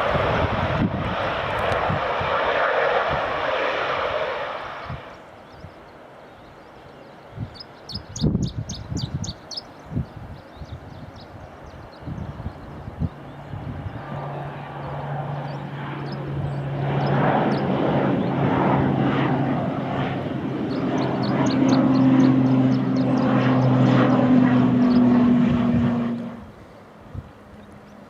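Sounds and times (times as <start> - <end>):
airliner engines humming: 0.0 - 28.0.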